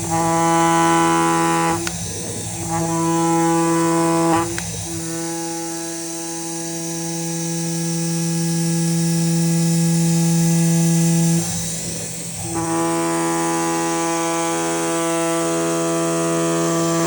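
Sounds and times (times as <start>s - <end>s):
cutting machine buzzing: 0.0s - 17.0s.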